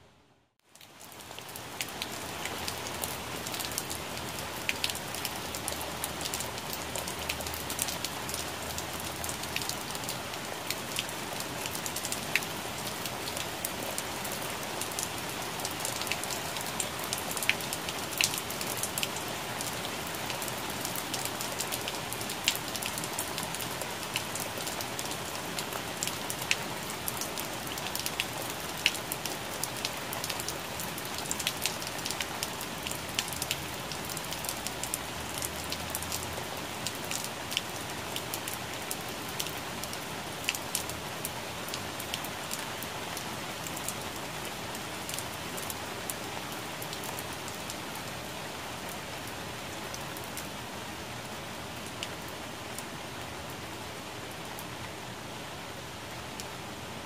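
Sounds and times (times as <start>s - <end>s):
rain falling on leaves: 0.5s - 57.0s.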